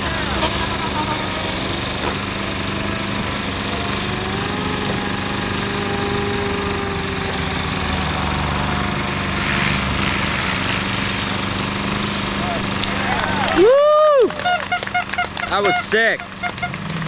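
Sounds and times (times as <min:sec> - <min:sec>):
rc helicopter rotor and motor whine: 0:00.0 - 0:14.3.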